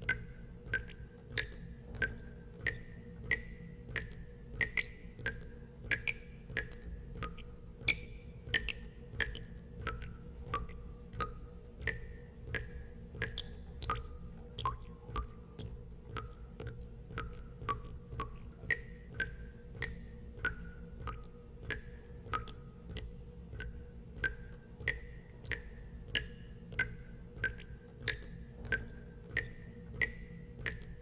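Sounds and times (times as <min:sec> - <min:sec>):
water drops plinking into water: 0:00.0 - 0:31.0.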